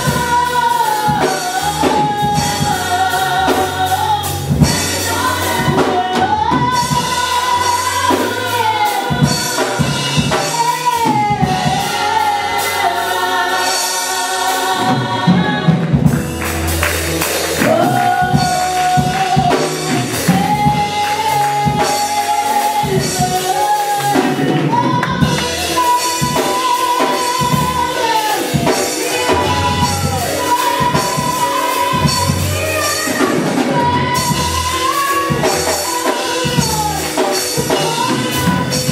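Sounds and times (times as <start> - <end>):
band playing: 0.0 - 38.9
drums keeping a steady beat: 0.0 - 38.9
voices singing held notes: 0.0 - 38.9.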